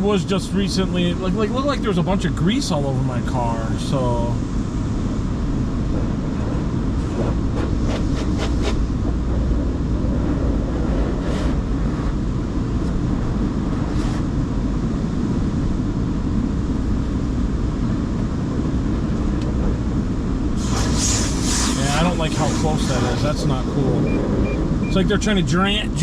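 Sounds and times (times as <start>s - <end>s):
low rumble inside car: 0.0s - 26.0s.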